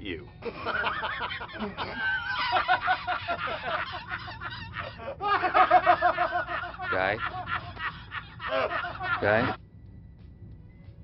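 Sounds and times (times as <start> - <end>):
men laughing: 0.4 - 9.6.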